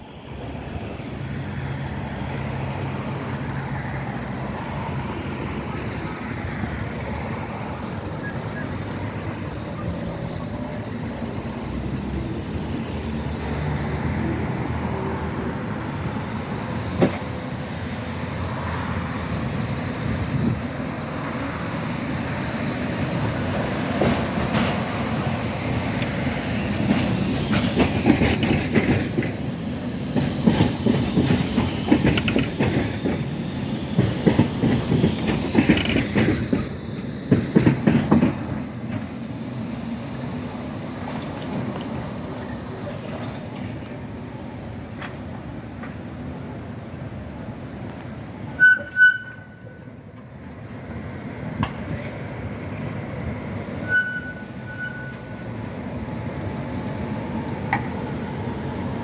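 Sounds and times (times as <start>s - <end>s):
road traffic rumble: 0.0s - 59.0s
tram wheels clacking over rail joints: 0.4s - 59.0s.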